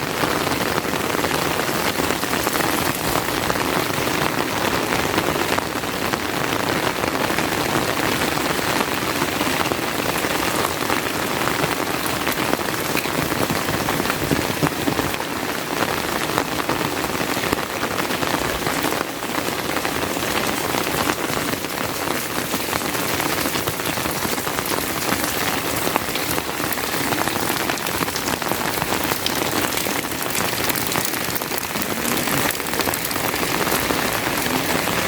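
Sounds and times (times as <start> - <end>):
heavy rain pattering: 0.0 - 35.0.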